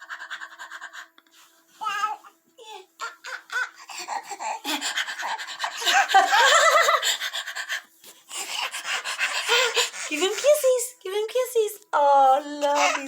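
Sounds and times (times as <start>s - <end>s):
baby laughing and panting: 0.0s - 10.7s.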